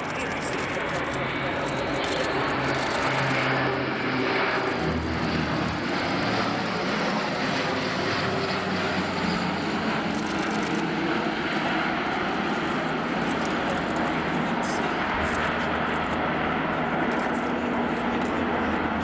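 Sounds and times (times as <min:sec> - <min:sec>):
turboprop aircraft droning: 0:00.0 - 0:19.0.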